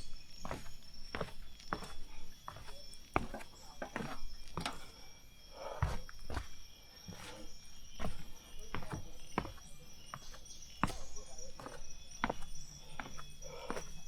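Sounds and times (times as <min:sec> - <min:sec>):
footsteps going down steps: 0:00.0 - 0:14.0.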